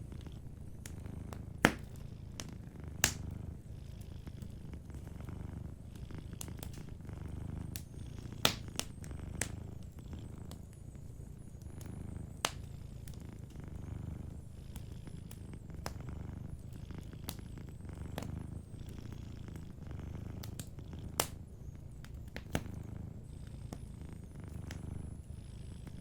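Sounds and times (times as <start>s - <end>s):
wood fire crackling and popping: 0.0s - 25.1s
cat purring: 0.0s - 26.0s.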